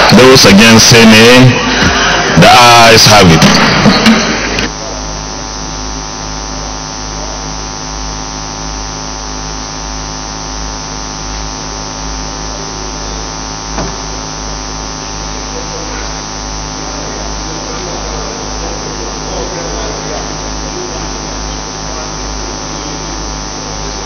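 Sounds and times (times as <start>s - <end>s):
constant hiss: 0.0s - 24.0s
electrical mains hum: 0.0s - 24.0s.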